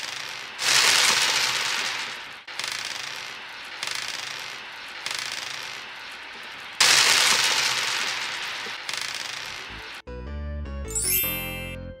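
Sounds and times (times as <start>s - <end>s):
crackling rattle bursts: 0.0s - 10.0s.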